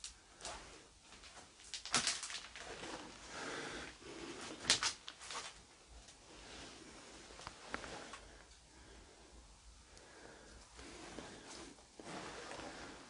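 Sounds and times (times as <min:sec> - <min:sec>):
soft rustling: 0:00.2 - 0:09.2, 0:09.9 - 0:13.0.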